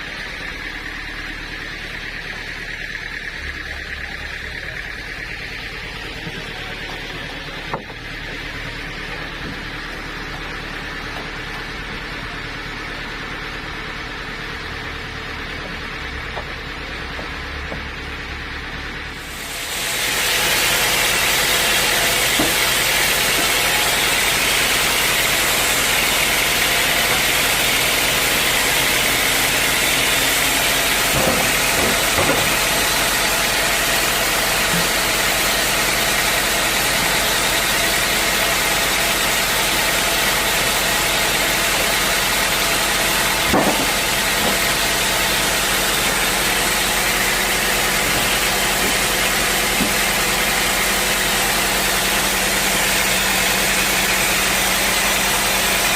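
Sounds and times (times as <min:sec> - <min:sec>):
sawmill saw cutting log: 0:00.0 - 0:55.9.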